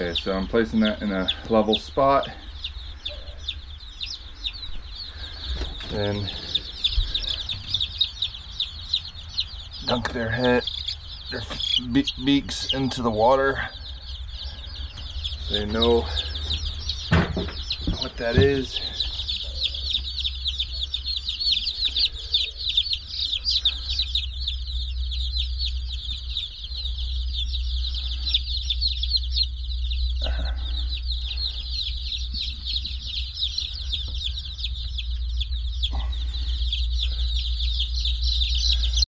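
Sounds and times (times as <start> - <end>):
baby chicks peeping: 0.0 - 39.0
steady low hum: 0.0 - 39.0.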